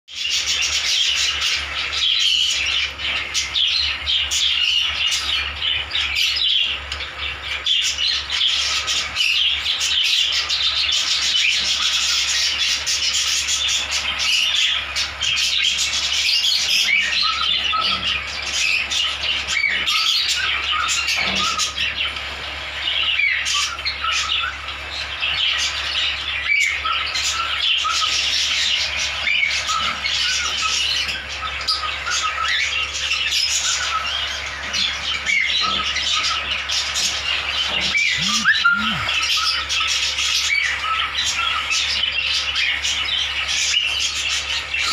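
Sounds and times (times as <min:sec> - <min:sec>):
parrot chicks squawking and chirping: 0:00.1 - 0:44.9.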